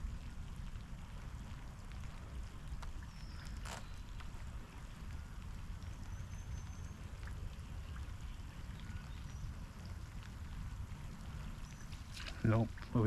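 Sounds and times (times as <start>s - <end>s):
steady rain falling: 0.0s - 13.0s
faint ticks: 0.1s - 13.0s.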